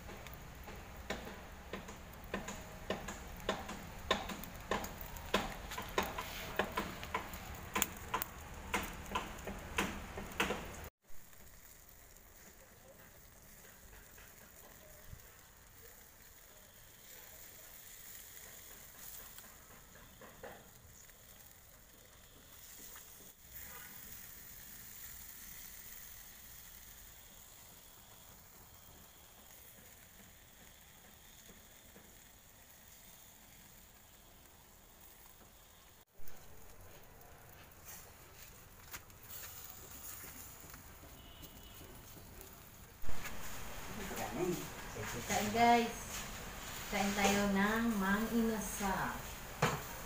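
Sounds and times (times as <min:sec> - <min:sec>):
chicken sizzling on charcoal grill: 0:00.0 - 0:50.0.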